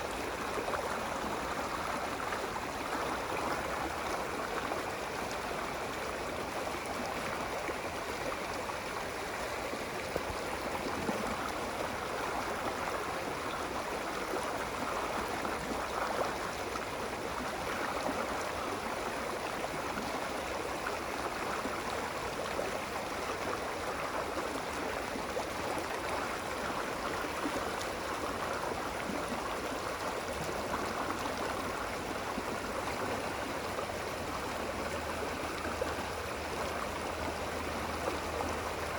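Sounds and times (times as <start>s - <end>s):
stream gurgling: 0.0s - 38.9s.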